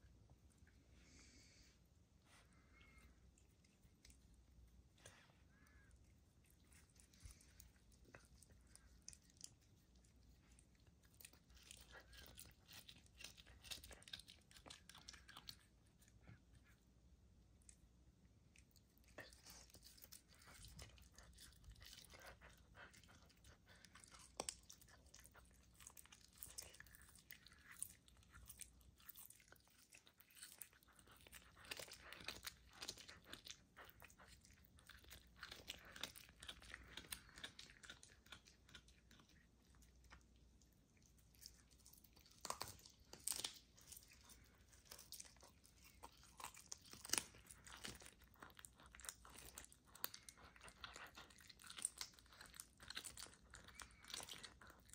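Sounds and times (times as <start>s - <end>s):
wild cat crunching meat and bone: 6.4s - 16.6s, 18.9s - 54.9s.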